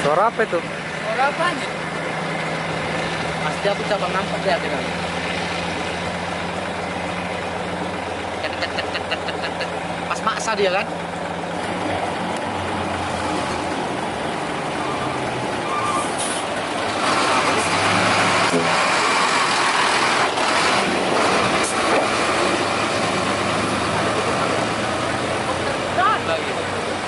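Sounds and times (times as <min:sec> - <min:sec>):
diesel trucks driving past: 0:00.0 - 0:27.0
road noise: 0:00.0 - 0:27.0.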